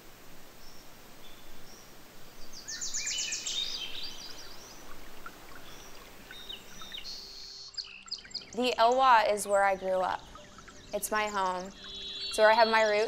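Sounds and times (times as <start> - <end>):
birds singing: 2.4 - 13.0.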